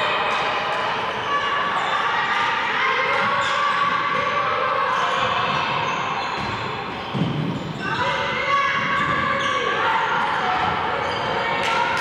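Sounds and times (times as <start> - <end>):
general game noise: 0.0 - 12.0.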